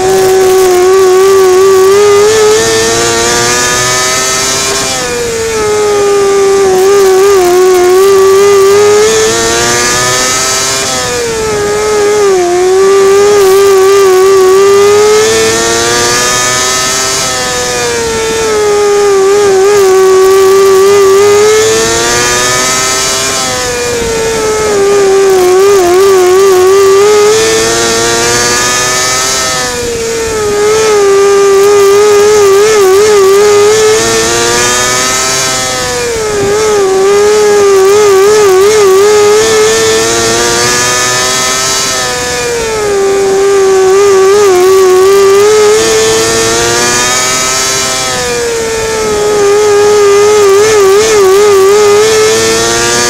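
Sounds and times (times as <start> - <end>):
racing car engine revving: 0.0 - 53.0.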